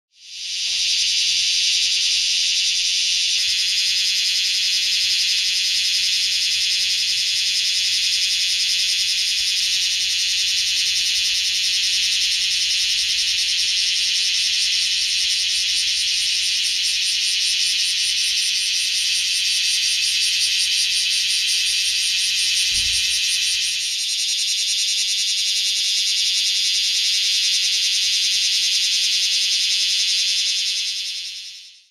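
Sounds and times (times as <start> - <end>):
cicadas singing: 0.1 - 31.9.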